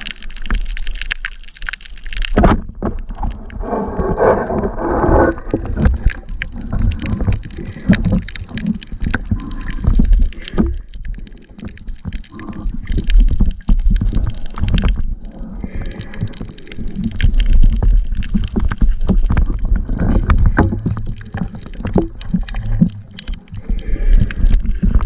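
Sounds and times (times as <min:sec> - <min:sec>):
water gurgling and sloshing: 0:00.0 - 0:25.0.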